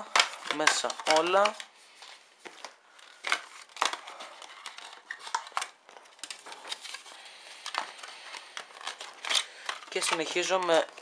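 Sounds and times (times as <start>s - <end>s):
plastic packaging clicks and crinkles: 0.0s - 11.0s.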